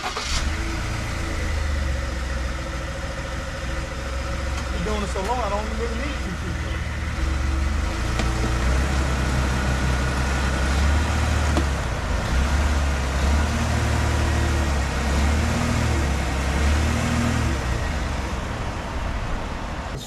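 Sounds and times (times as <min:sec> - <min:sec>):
truck engine low drone: 0:00.0 - 0:20.0.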